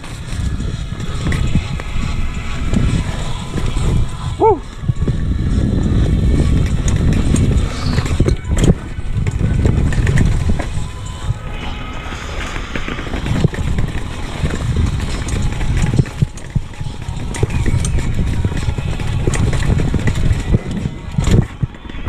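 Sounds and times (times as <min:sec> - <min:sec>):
bike knocks and rattles: 0:00.0 - 0:11.4, 0:12.7 - 0:22.0
bike tyres rolling over dirt: 0:00.0 - 0:22.0
wind buffeting microphone: 0:00.0 - 0:22.0.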